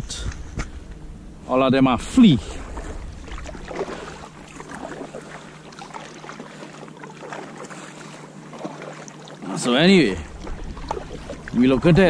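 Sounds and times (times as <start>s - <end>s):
water slapping a hull: 2.0s - 12.0s
paddle splashing water: 2.2s - 12.0s.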